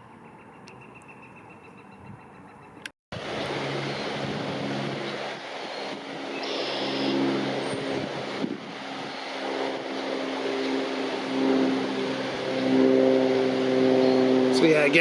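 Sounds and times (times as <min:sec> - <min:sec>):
distant engine droning: 0:00.0 - 0:15.0.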